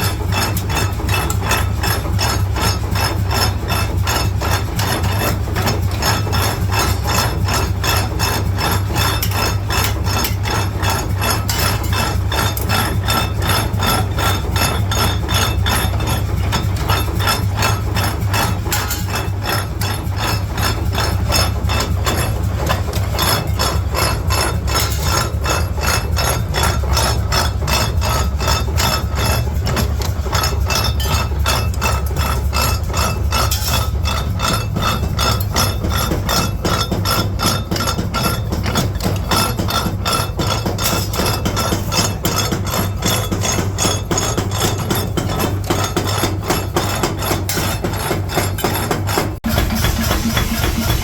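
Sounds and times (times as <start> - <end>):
hammer striking steel: 0.0 - 51.0
low machine hum: 0.0 - 51.0.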